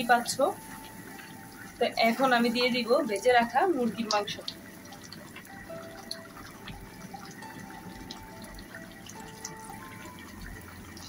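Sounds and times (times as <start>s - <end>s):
gravy bubbling and sizzling: 0.0s - 11.0s.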